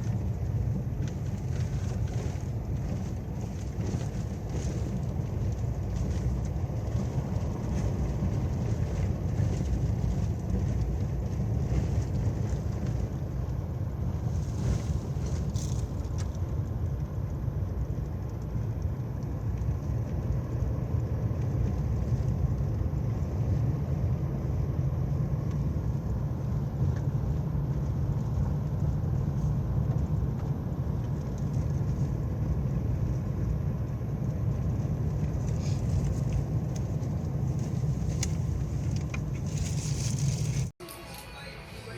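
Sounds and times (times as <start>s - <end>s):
moving vehicle rumble: 0.0s - 41.9s
road and wind noise: 0.0s - 41.9s.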